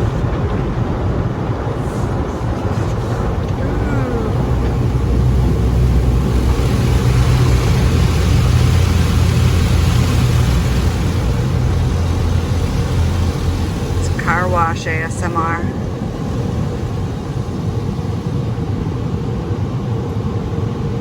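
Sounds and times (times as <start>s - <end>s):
car cabin road rumble: 0.0s - 20.7s.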